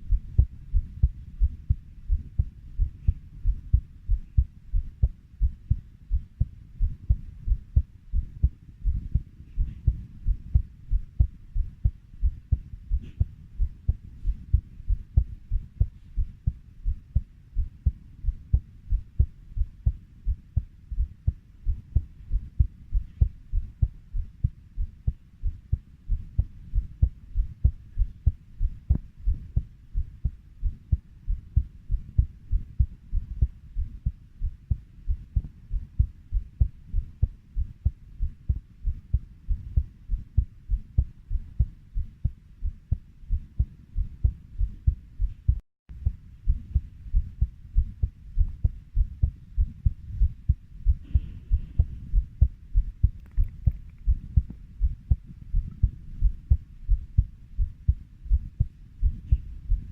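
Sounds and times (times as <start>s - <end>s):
heartbeat double thump: 0.0s - 59.9s.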